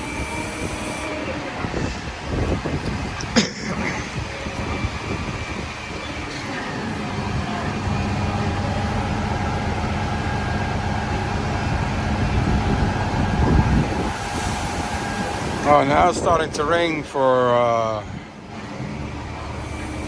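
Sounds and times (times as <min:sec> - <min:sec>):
vehicle engine humming: 0:00.0 - 0:16.5
wind rumble on microphone: 0:00.0 - 0:17.2
city street traffic: 0:00.0 - 0:20.0.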